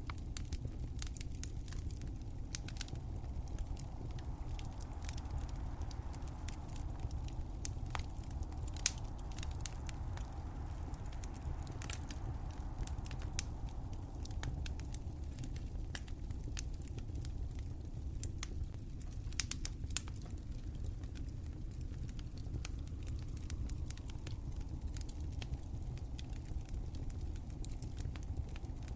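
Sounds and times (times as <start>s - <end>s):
steady low rumble: 0.0s - 28.9s
wood fire crackling: 0.0s - 28.9s.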